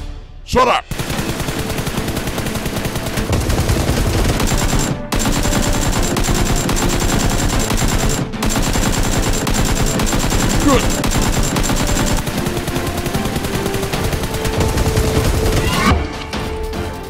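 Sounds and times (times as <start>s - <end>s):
machine-gun fire: 0.9s - 15.9s.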